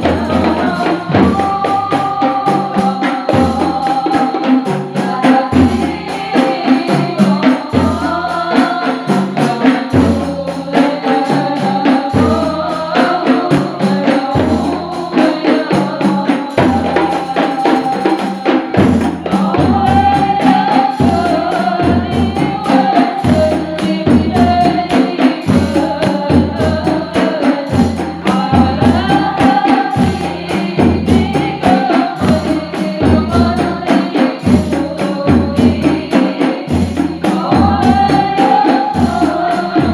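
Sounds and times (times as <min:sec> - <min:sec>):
deep drum beats: 0:00.0 - 0:39.9
group singing: 0:00.0 - 0:39.9.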